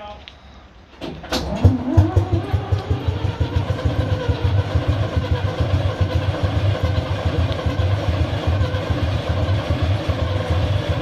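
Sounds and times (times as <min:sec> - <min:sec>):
diesel engine running: 0:01.4 - 0:11.0.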